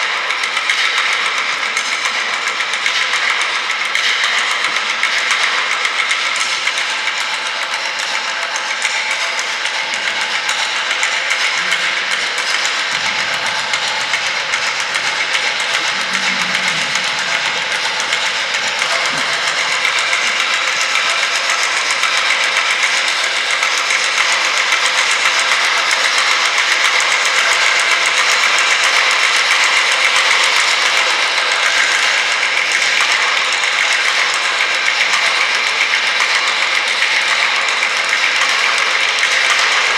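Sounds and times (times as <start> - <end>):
percussion on objects clattering: 0.0 - 39.9.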